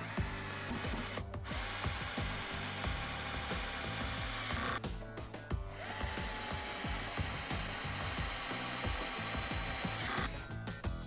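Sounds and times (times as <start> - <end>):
power drill driving screws: 0.0 - 4.8, 5.7 - 10.4.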